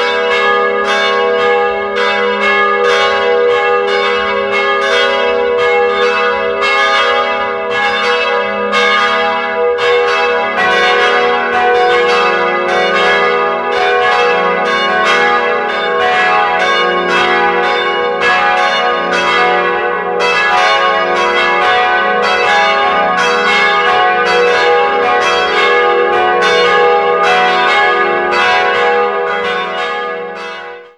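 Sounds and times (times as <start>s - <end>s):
church bells pealing: 0.0s - 30.9s.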